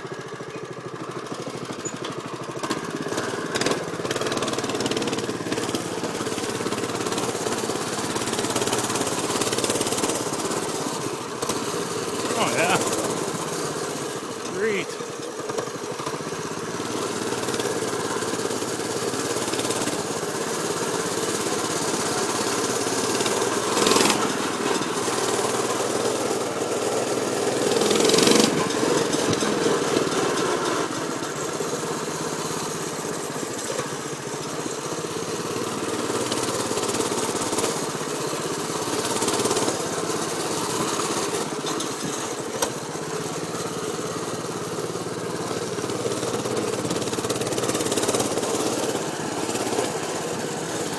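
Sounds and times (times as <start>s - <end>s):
mini bike engine running: 0.0s - 50.9s.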